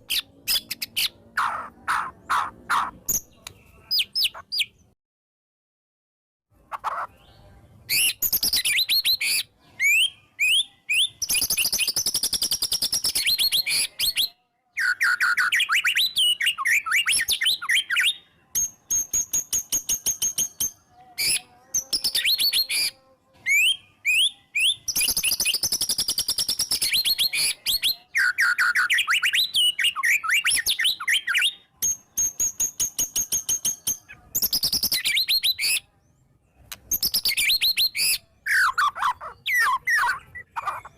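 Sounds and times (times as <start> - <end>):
bird singing whistles and trills: 7.2 - 35.9, 36.7 - 40.9.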